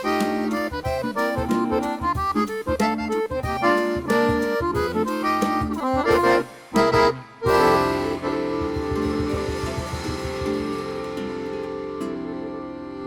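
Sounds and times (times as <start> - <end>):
accordion chords: 0.0 - 13.0.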